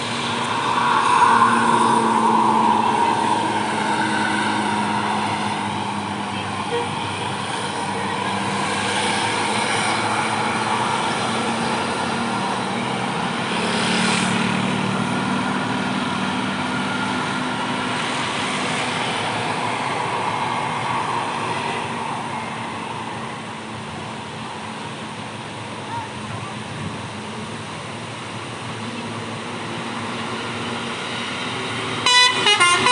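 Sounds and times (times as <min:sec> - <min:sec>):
bus engine passing: 0:00.0 - 0:32.9.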